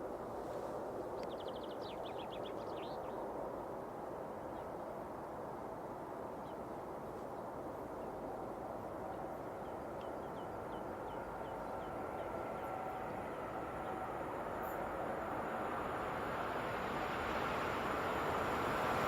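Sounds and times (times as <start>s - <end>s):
distant train rumbling hiss: 0.0s - 19.0s.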